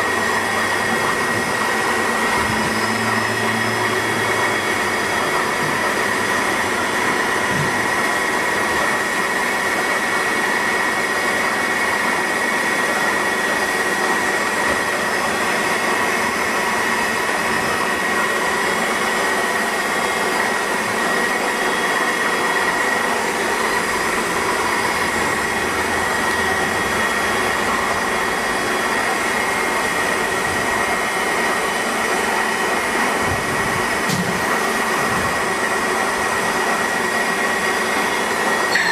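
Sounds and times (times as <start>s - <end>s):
high-pitched machine whine: 0.0s - 38.9s
machining center whirring: 0.0s - 38.9s.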